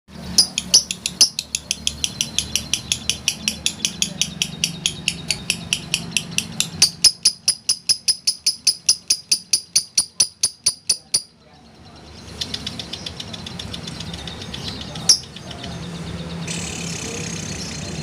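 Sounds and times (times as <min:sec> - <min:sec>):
lovebird shrill chirping: 0:00.3 - 0:17.7.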